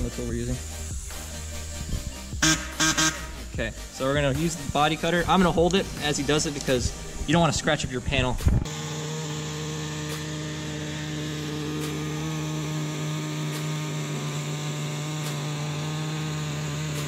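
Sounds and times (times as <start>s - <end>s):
air-powered cutter cutting plastic: 0.0s - 3.6s, 5.2s - 17.0s.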